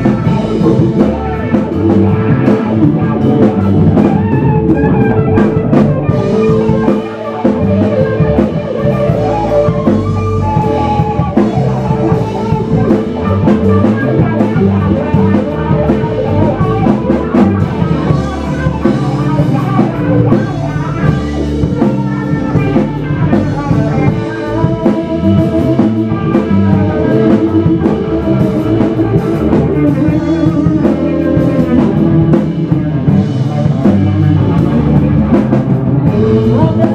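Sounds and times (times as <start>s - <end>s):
drum kit: 0.0s - 36.9s
electric bass: 0.0s - 36.9s
electric guitar: 0.0s - 36.9s.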